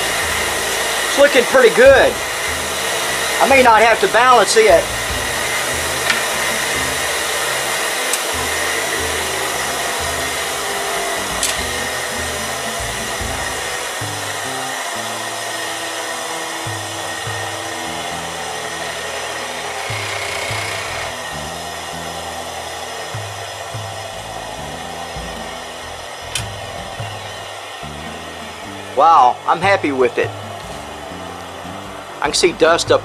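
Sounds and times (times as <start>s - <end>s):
bench grinder motor whine: 0.0s - 33.0s.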